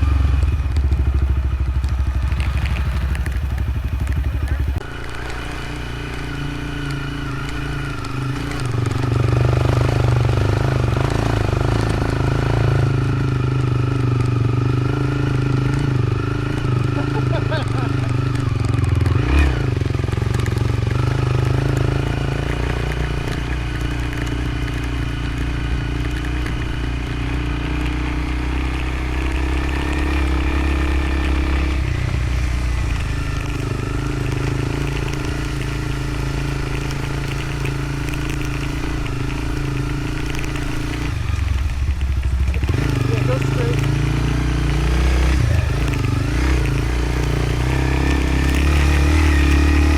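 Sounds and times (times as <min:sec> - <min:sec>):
motorcycle engine running: 0:00.0 - 0:49.9
rough-road rattle: 0:00.0 - 0:49.9.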